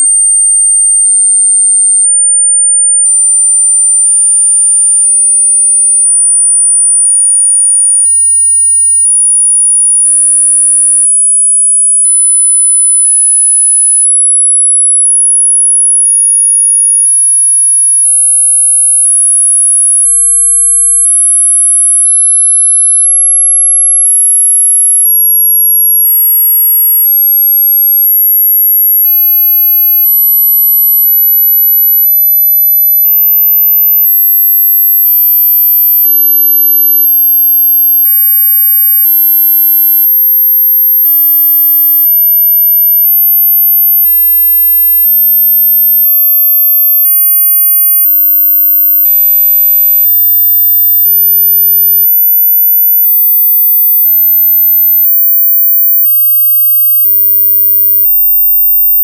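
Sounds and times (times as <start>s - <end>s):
high sine-wave test tone: 0.0s - 59.0s.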